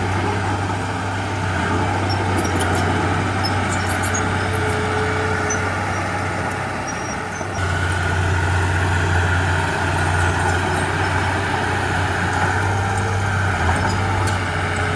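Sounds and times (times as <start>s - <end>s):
diesel machinery engine hum: 0.0s - 14.9s.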